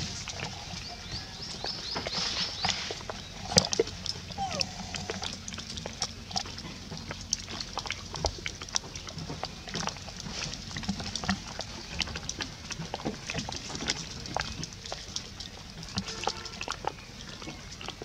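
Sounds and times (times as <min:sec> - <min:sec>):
monkey chewing leaves: 0:00.2 - 0:18.0.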